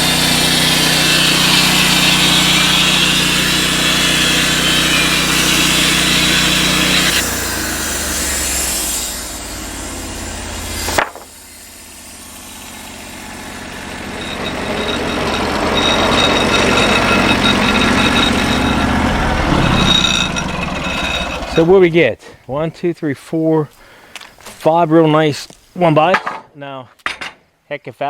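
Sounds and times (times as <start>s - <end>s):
band sawmill running: 0.0s - 26.0s.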